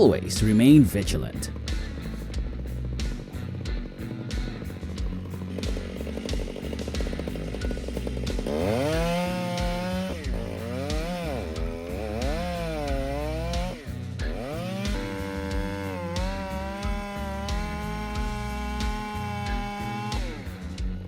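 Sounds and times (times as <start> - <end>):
background music: 0.0 - 21.0
chainsaw revving: 0.4 - 21.0.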